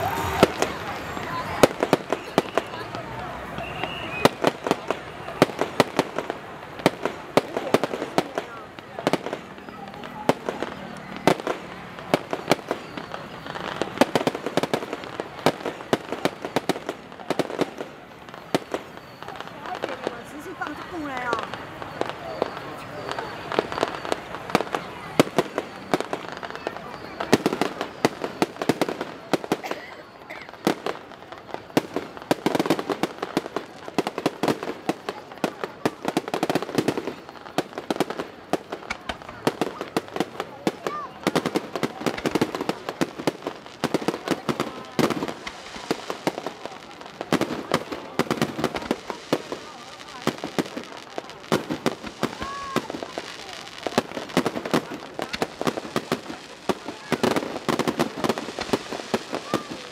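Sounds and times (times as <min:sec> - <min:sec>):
fireworks bangs and pops: 0:00.0 - 0:59.9.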